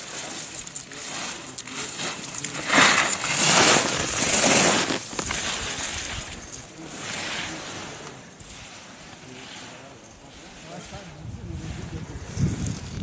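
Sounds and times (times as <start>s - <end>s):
skis scraping on snow: 0.0s - 13.0s.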